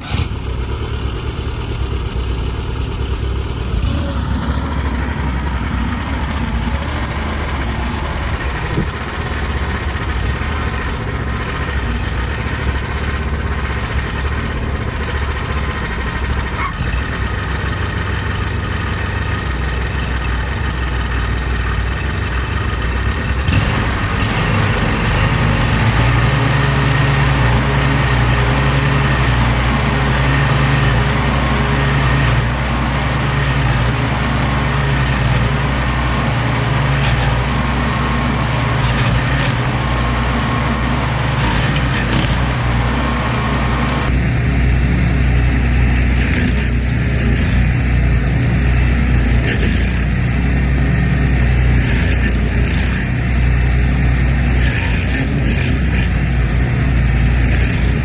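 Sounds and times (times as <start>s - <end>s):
yard equipment engine running: 0.0s - 58.0s.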